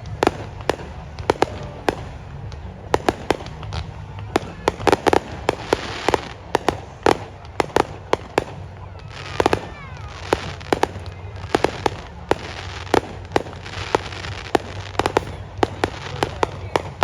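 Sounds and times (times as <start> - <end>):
fireworks bangs: 0.0 - 17.0
fireworks crackling hiss: 0.0 - 17.0
fireworks whistling: 0.0 - 17.0.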